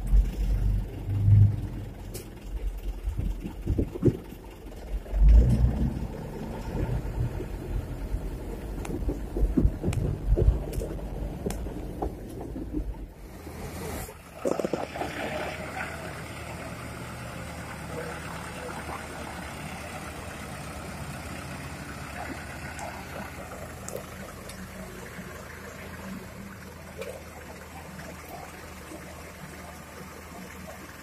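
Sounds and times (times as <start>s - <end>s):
diesel machinery engine running: 0.0s - 31.0s.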